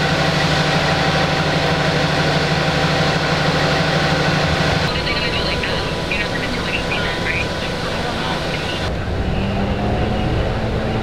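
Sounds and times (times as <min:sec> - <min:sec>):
bus engine idling: 0:00.0 - 0:09.2.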